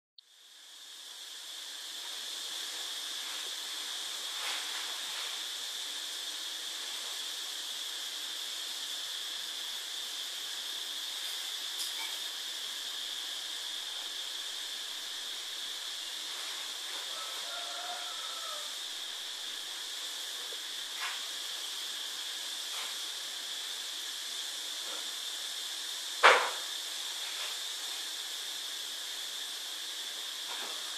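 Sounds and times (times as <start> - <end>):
steady hiss: 0.2 - 30.9.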